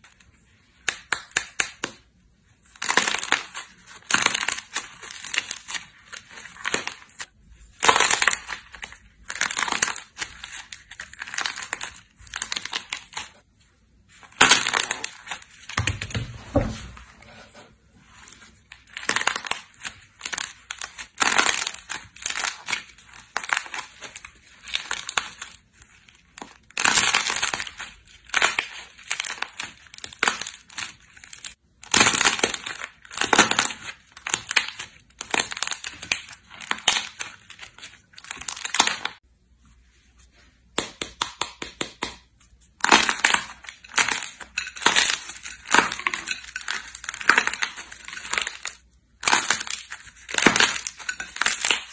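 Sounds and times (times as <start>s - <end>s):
slime squishing and crackling: 0.0s - 16.7s, 18.0s - 39.2s, 40.7s - 51.9s.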